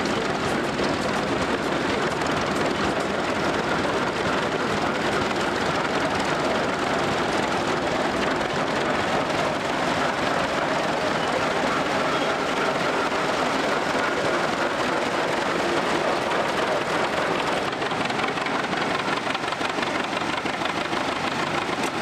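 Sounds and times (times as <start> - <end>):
crawler tractor engines running: 0.0 - 22.0.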